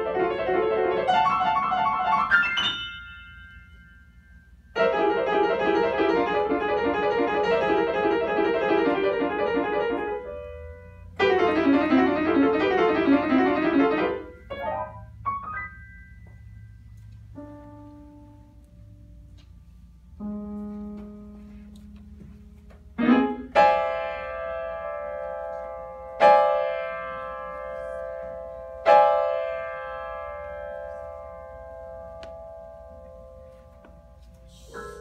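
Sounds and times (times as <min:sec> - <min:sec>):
solo grand piano: 0:00.0 - 0:35.0.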